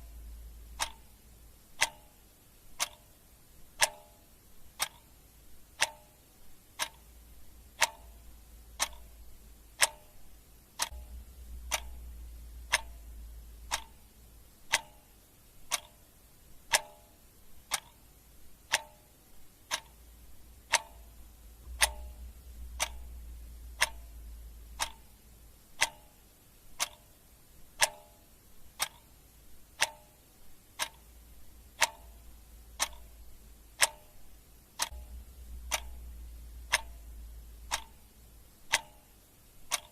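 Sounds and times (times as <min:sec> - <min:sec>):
clock ticking: 0:00.0 - 0:39.9
faint low rumble: 0:00.0 - 0:39.9.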